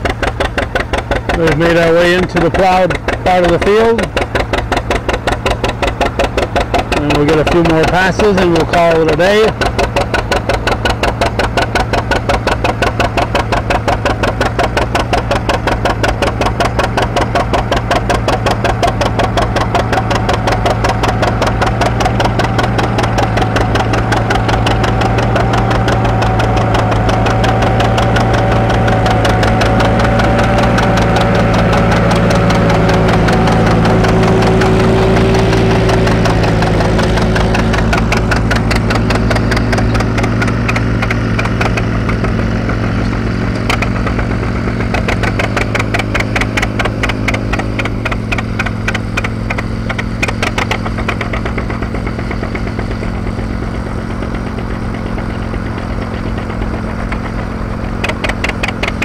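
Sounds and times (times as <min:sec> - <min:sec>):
tractor engine chugging: 0:00.0 - 0:59.0.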